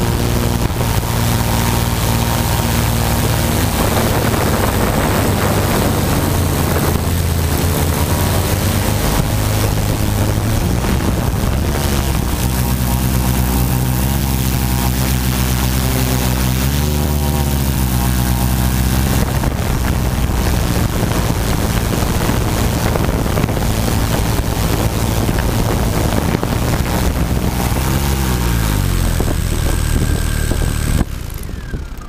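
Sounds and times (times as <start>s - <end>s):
drone propellers whirring: 0.0s - 32.0s.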